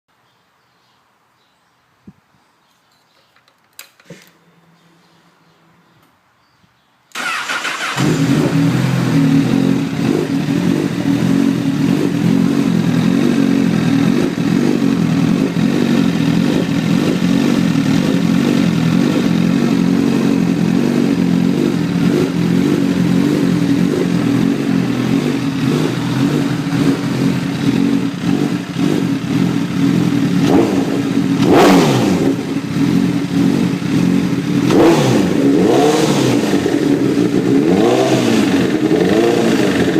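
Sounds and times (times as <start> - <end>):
motorcycle engine starting and idling: 7.1 - 39.9.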